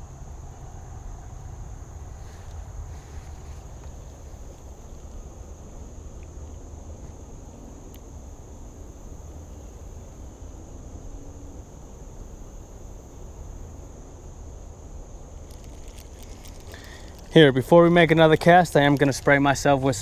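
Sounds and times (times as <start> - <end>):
insects singing: 0.0 - 20.0.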